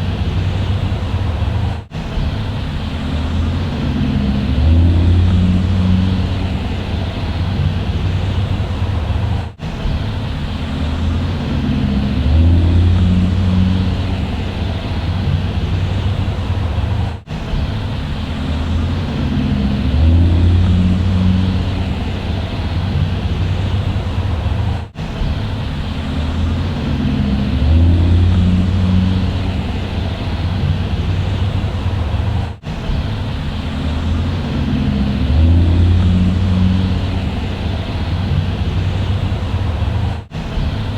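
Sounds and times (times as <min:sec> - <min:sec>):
bus engine humming: 0:00.0 - 0:40.9.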